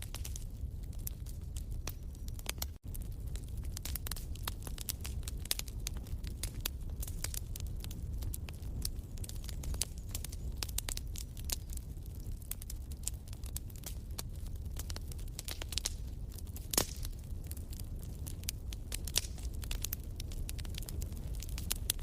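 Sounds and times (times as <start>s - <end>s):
fire crackling in fireplace: 0.0s - 22.0s.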